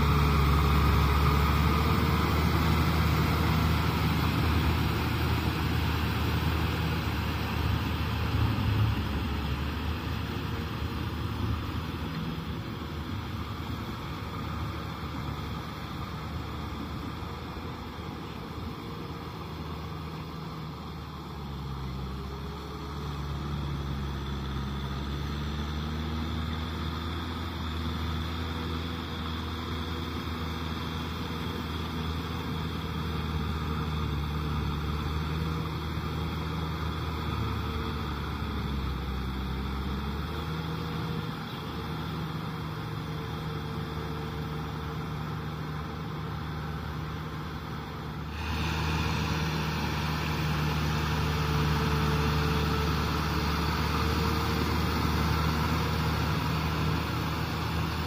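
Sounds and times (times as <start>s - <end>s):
tiller churning wet mud: 0.0s - 16.6s, 20.6s - 58.0s
tractor diesel engine running: 0.0s - 58.0s.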